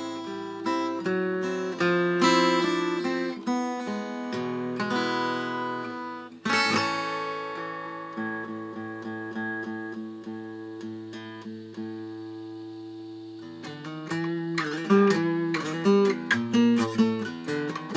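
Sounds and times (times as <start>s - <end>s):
acoustic guitar chords: 0.0s - 17.9s.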